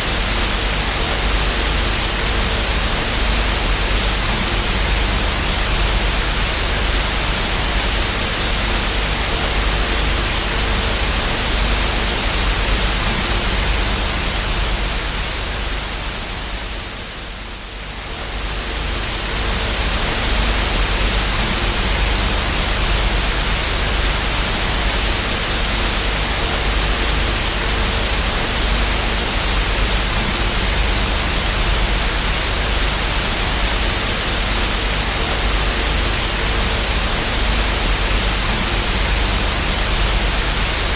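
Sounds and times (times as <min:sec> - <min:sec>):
television static hiss: 0:00.0 - 0:40.9.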